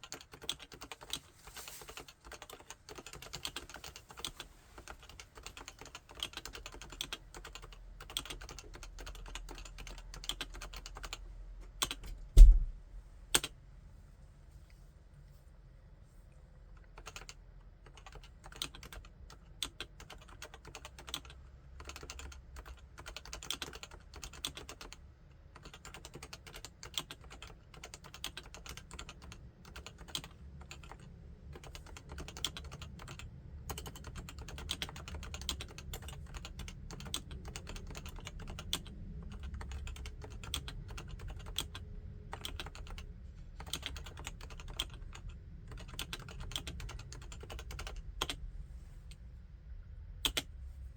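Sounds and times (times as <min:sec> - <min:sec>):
keyboard typing: 0:00.0 - 0:11.2, 0:11.8 - 0:12.7, 0:16.8 - 0:25.0, 0:25.6 - 0:48.4, 0:50.2 - 0:50.5.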